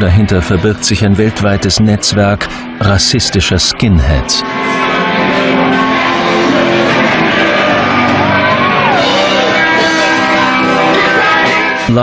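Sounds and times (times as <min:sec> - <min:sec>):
electric guitar: 0:00.0 - 0:12.0
live rock music: 0:00.0 - 0:12.0.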